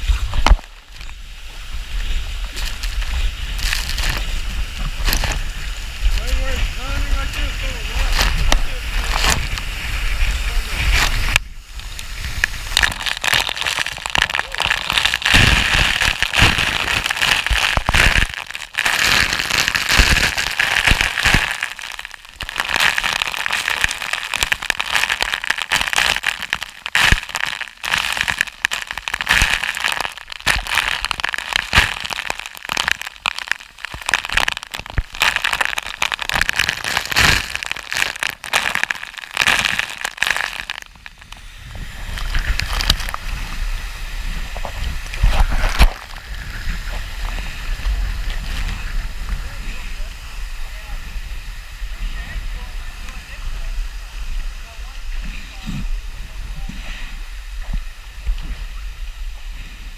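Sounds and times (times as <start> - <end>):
waterfall splashing: 0.0 - 56.5.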